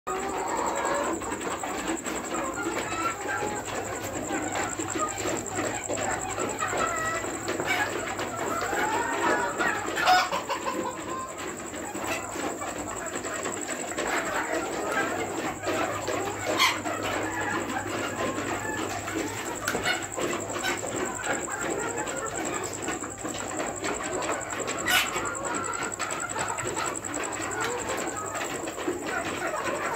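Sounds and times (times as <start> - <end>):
chickens clucking: 0.1 - 29.9.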